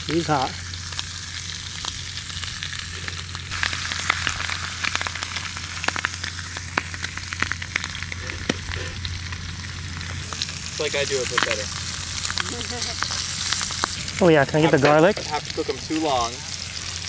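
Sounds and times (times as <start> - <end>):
oil popping and crackling: 0.0 - 17.0
seafood sizzling in hot oil: 0.0 - 17.0.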